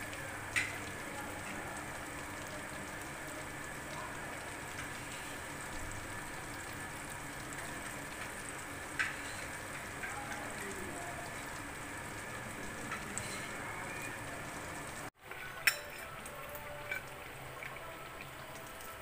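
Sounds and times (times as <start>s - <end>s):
chicken deep-frying in oil: 0.0s - 19.0s.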